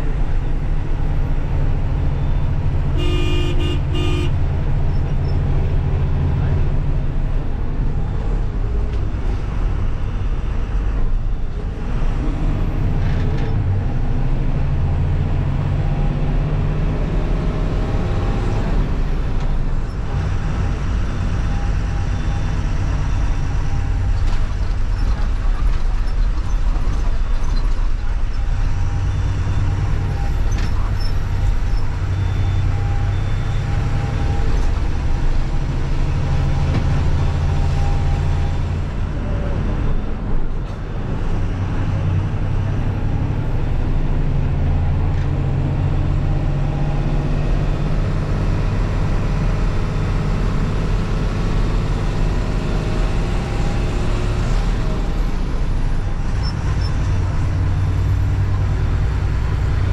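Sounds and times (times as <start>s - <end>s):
bus diesel engine drone: 0.0s - 59.9s
road noise: 0.0s - 59.9s.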